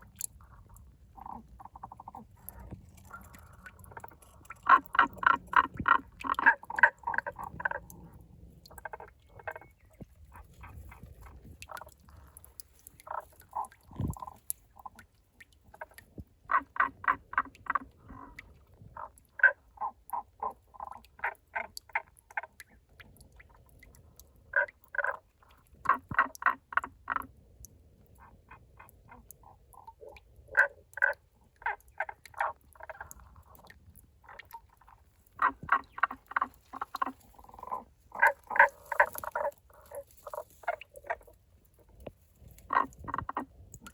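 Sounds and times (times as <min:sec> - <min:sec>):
frogs croaking: 0:00.0 - 0:15.1, 0:15.7 - 0:23.6, 0:24.5 - 0:27.4, 0:28.1 - 0:43.9.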